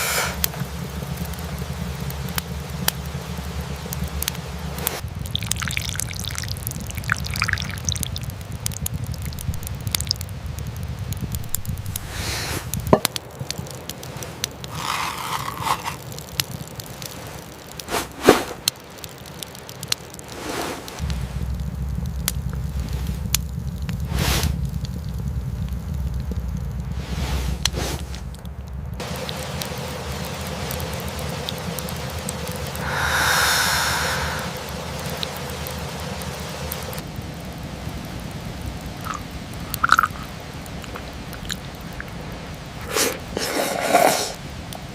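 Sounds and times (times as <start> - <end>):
rain dripping and pattering: 0.0 - 44.9
steady low rumble: 0.4 - 14.9, 16.0 - 43.4
sharp ticks and crackles: 0.4 - 17.9, 18.6 - 20.4, 21.0 - 27.0, 27.6 - 42.8.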